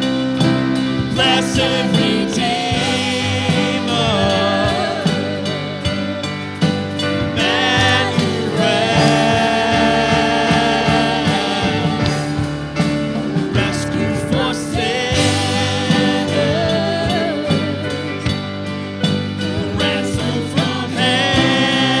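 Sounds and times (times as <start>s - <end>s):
singers holding a note: 0.0s - 18.4s, 19.0s - 22.0s
worship band playing: 0.0s - 22.0s.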